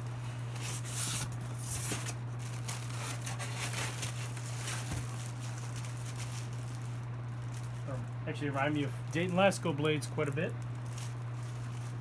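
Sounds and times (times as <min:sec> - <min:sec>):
packaging rustling and crinkling: 0:00.0 - 0:12.0
steady low hum: 0:00.0 - 0:12.0.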